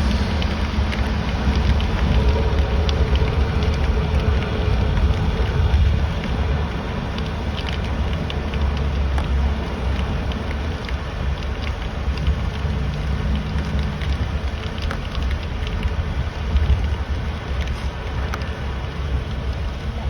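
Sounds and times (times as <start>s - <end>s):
car road rumble: 0.0s - 20.0s
raindrops ticking on car: 0.0s - 20.0s.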